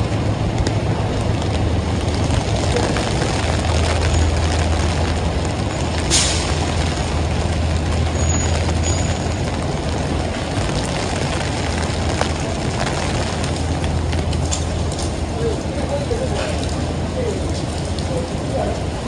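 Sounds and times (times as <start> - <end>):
heavy rain hissing: 0.0 - 19.0
traffic engine rumble: 0.0 - 19.0.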